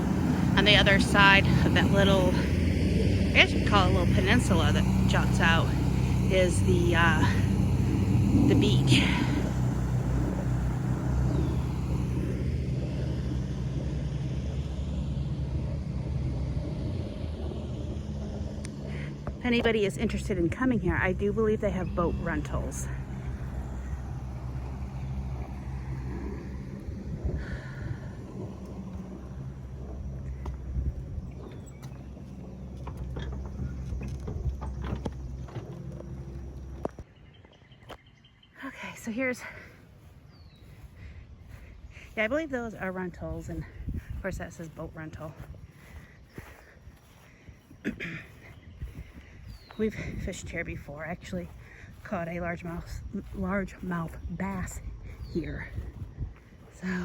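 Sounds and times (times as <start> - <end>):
engine hum: 0.0 - 57.0.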